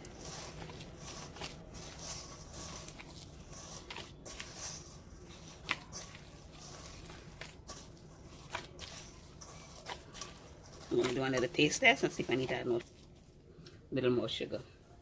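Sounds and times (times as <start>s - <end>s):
hands squishing sticky pulp: 0.0s - 13.3s.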